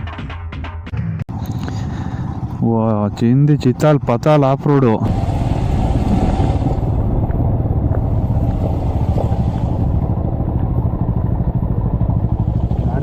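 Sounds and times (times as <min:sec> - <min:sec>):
motorcycle engine running under load: 0:01.3 - 0:13.0.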